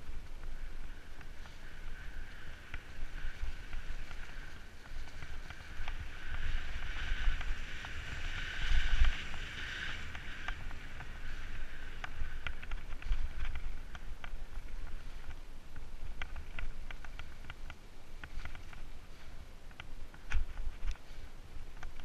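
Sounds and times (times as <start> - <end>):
bike rattles and clicks: 0.0 - 22.0
steady buzz from moving bike: 0.0 - 22.0
wind rumble on microphone: 0.0 - 22.0.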